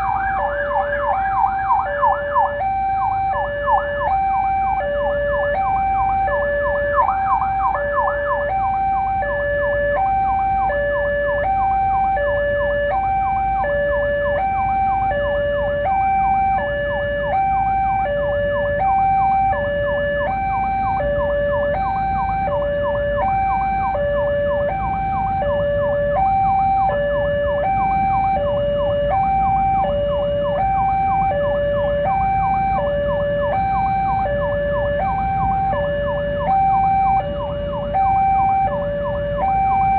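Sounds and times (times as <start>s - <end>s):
level-crossing alarm two-tone signal: 0.0s - 39.9s
low steady rumble: 0.0s - 39.9s.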